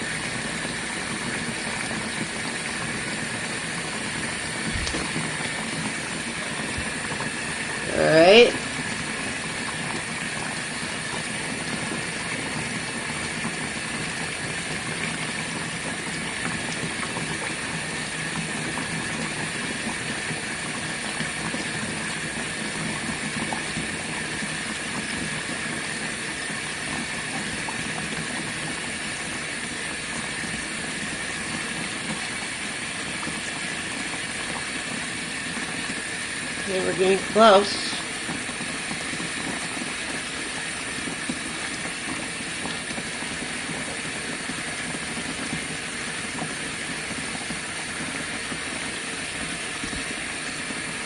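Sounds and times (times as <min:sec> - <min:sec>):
water running from a hose into a tub: 0:00.0 - 0:51.0.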